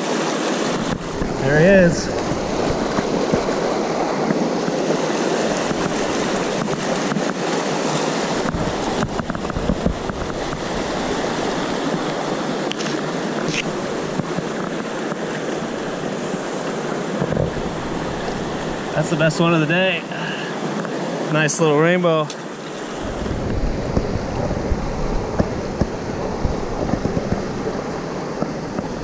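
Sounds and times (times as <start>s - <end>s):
river rushing over rocks: 0.0s - 29.0s.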